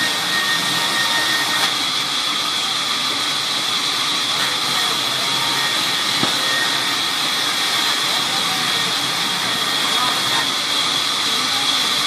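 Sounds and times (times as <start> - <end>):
sawmill saw cutting wood: 0.0 - 12.0.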